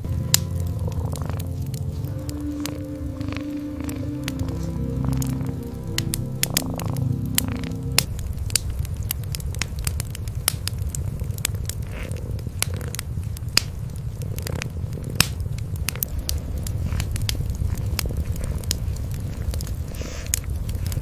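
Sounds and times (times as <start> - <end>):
cats purring: 0.0 - 21.0
wood fire crackling: 0.0 - 21.0.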